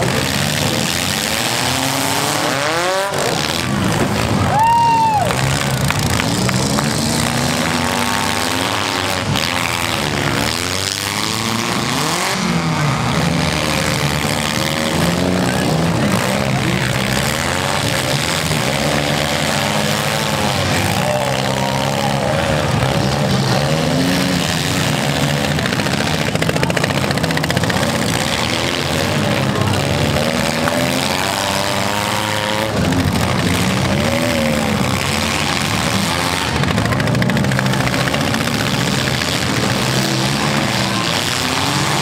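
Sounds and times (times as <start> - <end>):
car engines revving hard: 0.0 - 42.0.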